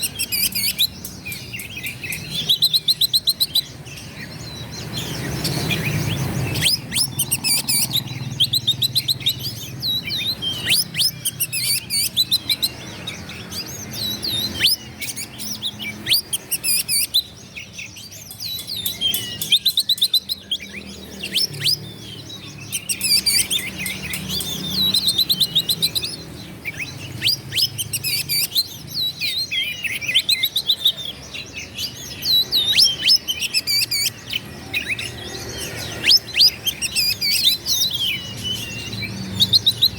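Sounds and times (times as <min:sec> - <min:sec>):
bird singing rapid chirps and trills: 0:00.0 - 0:39.9.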